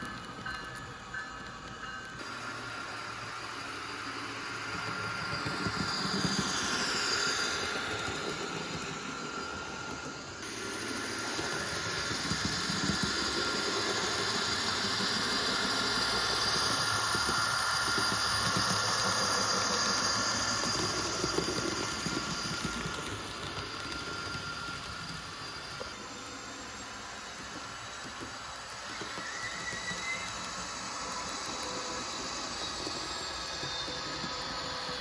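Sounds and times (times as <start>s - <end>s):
model locomotive diesel engine sound: 0.0s - 35.0s
steady motor whine: 2.2s - 35.0s.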